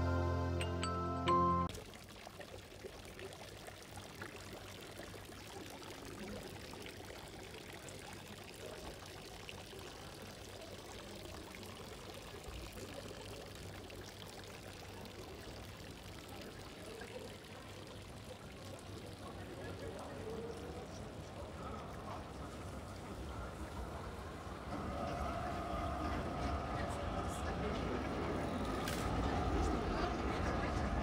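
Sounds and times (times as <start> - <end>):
faint flowing water: 1.6 - 31.0.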